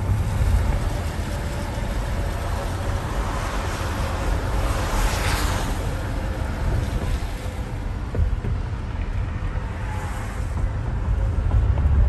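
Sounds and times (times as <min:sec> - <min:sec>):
wind and road noise in car: 0:00.0 - 0:12.0
wind buffeting microphone: 0:00.0 - 0:12.0.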